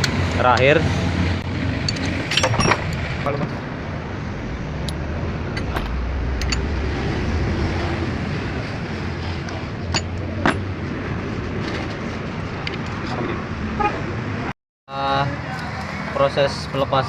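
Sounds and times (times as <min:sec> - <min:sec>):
background traffic rumble: 0:00.0 - 0:17.0.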